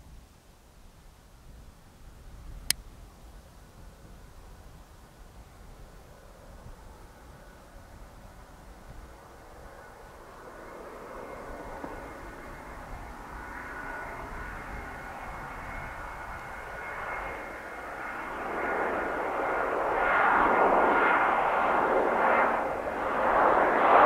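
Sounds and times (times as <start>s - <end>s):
jet engines with high whine: 1.2s - 24.0s.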